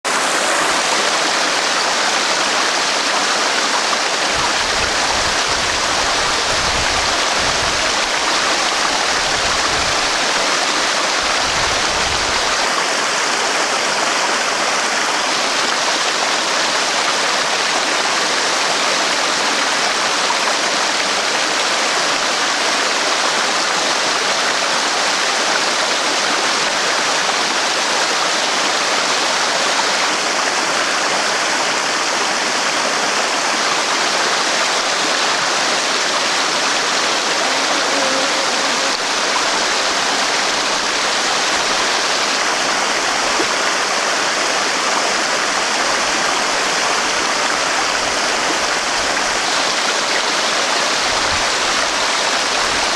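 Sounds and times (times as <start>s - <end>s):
waterfall rushing and splashing: 0.0s - 52.9s.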